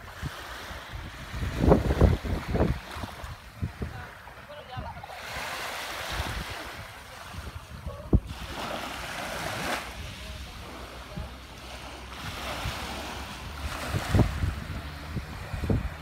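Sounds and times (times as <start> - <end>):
small waves lapping on shore: 0.0 - 16.0
wind buffeting microphone: 0.0 - 16.0.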